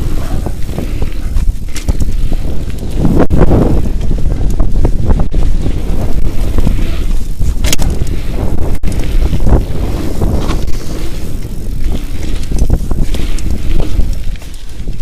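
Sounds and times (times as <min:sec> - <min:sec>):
bike knocks and rattles: 0:00.0 - 0:05.7, 0:06.8 - 0:15.0
tyres rolling on dirt: 0:00.0 - 0:15.0
wind buffeting microphone: 0:00.0 - 0:15.0.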